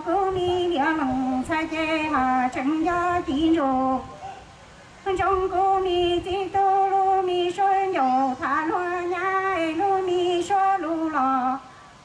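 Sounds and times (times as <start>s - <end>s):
woman singing through pa speaker: 0.0s - 4.2s, 5.0s - 11.8s.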